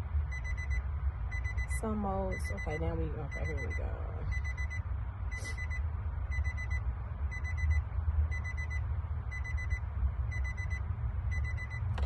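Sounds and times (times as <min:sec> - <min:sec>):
steady low rumble: 0:00.0 - 0:12.0
electronic warning beeper: 0:00.3 - 0:12.0.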